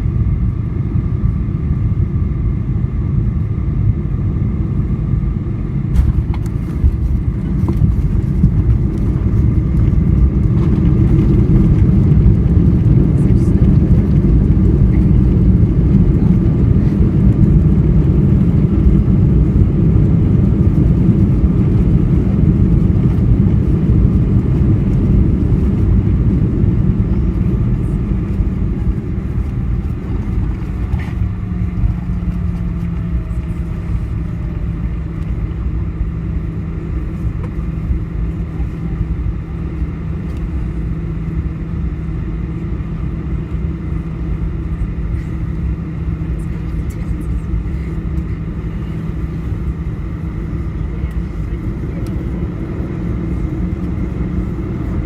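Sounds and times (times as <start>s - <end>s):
rumble of wheels and engines: 0.0s - 55.0s.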